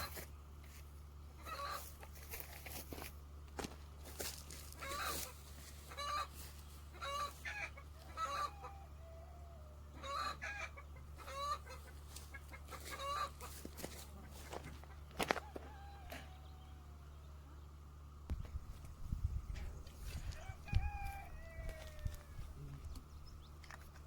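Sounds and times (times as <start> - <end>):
chickens clucking: 0.0 - 3.0, 4.3 - 24.0
steady low hum: 0.0 - 24.0.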